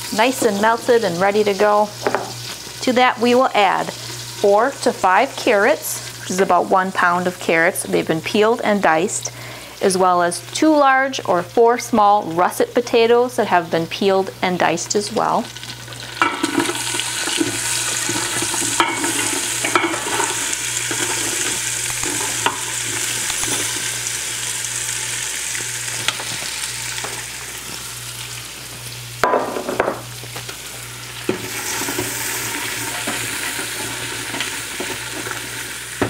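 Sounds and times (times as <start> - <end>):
vegetables sizzling in butter: 0.0 - 36.0.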